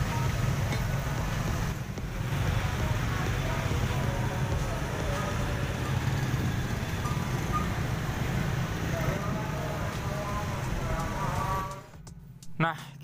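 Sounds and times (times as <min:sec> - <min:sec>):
motorbikes passing: 0:00.0 - 0:11.9
traffic engines and road noise: 0:00.0 - 0:13.0.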